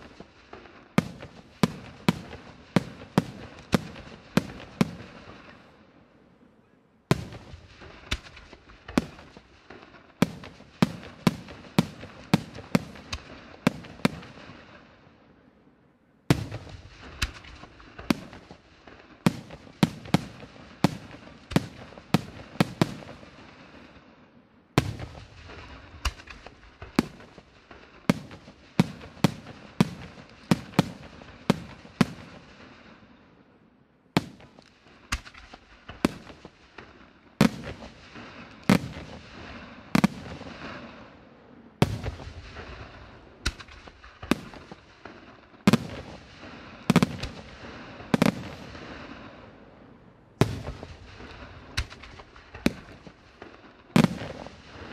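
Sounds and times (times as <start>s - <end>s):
fireworks bursting with sharp bangs: 0.0s - 6.2s, 7.0s - 15.5s, 16.2s - 54.9s.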